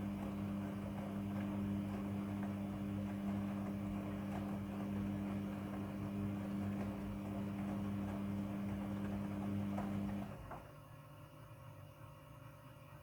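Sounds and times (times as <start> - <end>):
washing machine running: 0.0 - 11.6.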